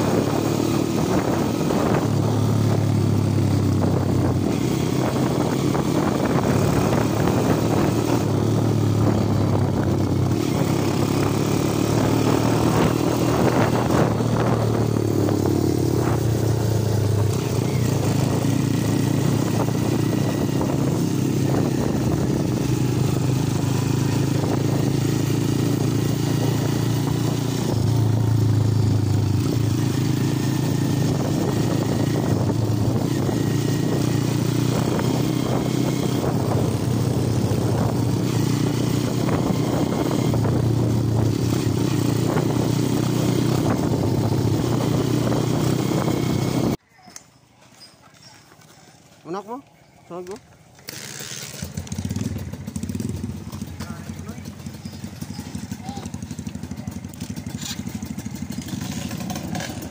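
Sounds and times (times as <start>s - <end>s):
motorcycle engine running: 0.0s - 46.8s, 50.0s - 59.9s.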